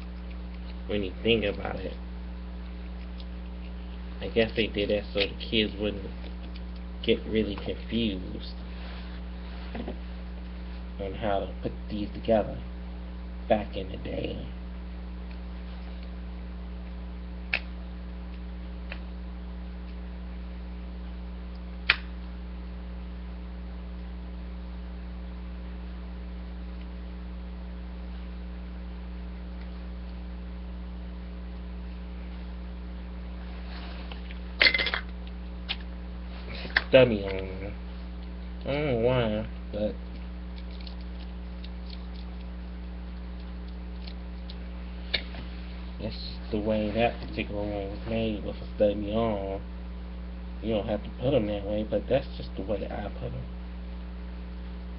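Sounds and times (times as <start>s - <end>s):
constant hiss: 0.0s - 54.9s
electrical mains hum: 0.0s - 54.9s.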